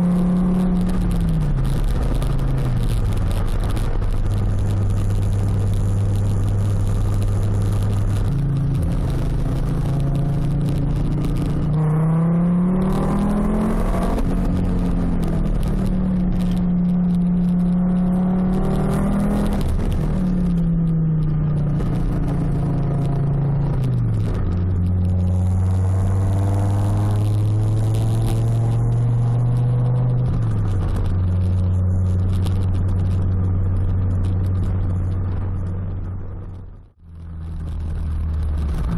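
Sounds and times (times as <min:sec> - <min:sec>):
car engine through loud exhaust: 0:00.0 - 0:38.9.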